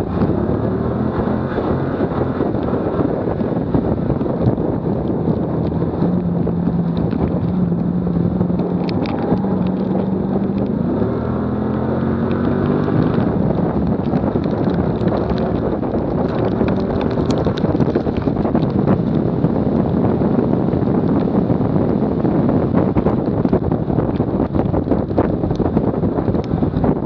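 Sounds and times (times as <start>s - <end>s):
car engine accelerating: 0.0s - 27.0s
road noise: 0.0s - 27.0s
wind buffeting camera: 0.0s - 27.0s.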